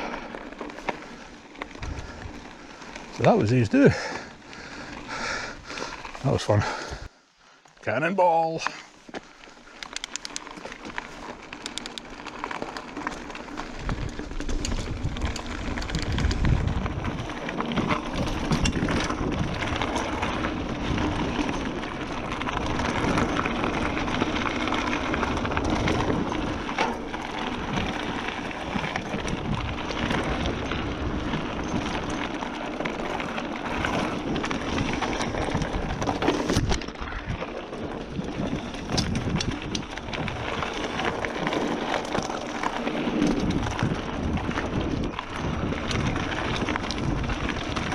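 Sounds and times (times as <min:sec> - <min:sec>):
bike rattling and clicking: 0:00.0 - 0:47.9
bike tyres rolling on trail: 0:00.0 - 0:47.9.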